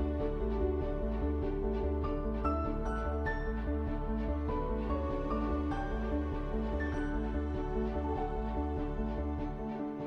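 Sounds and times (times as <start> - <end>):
soft new-age music: 0.0 - 10.0.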